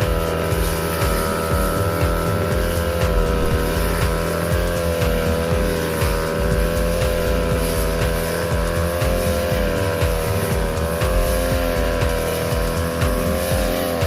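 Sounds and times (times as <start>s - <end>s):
blade cutting grass: 0.0s - 14.0s
mower engine running: 0.0s - 14.0s.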